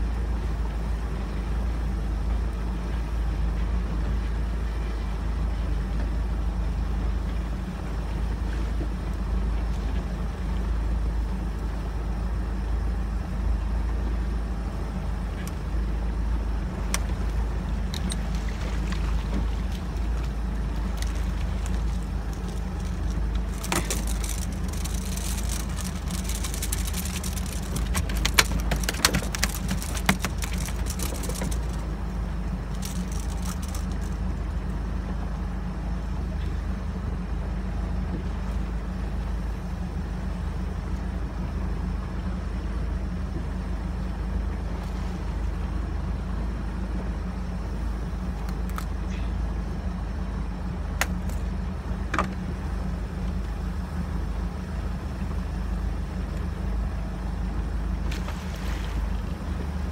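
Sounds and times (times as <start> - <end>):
boat engine drone: 0.0 - 59.9.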